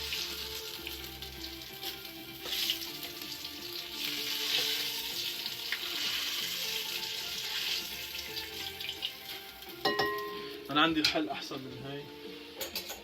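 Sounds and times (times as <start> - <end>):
flatbread sizzling in oil: 0.0 - 10.9.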